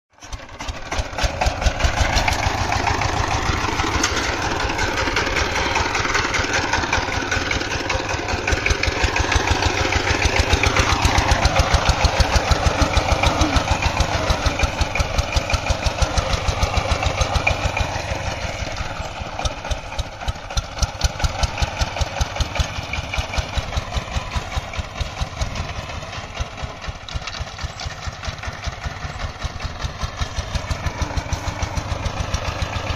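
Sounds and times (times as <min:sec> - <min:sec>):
diesel engine running: 0:00.1 - 0:32.9.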